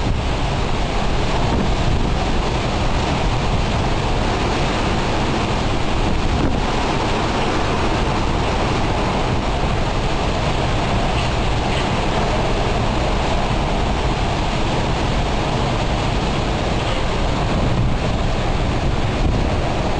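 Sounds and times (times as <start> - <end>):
strong wind buffeting microphone: 0.0 - 19.9.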